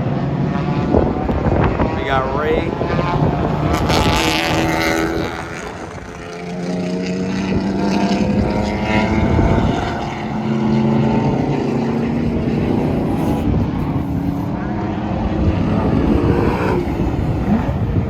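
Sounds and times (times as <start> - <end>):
racing car engine revving: 0.0 - 18.0.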